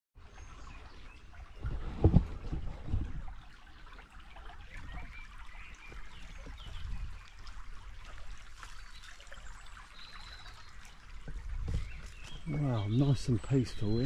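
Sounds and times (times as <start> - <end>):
stream trickling: 0.2 - 14.0.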